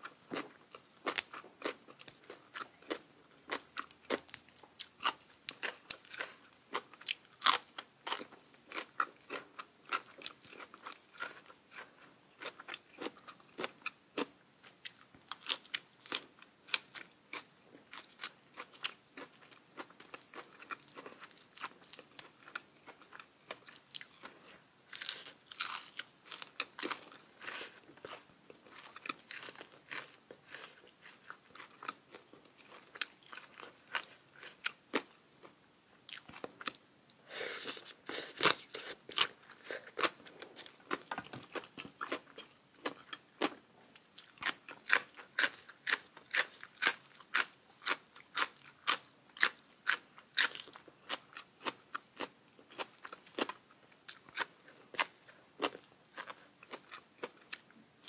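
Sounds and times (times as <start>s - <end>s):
chewing and crunching crisp food: 0.0s - 58.0s.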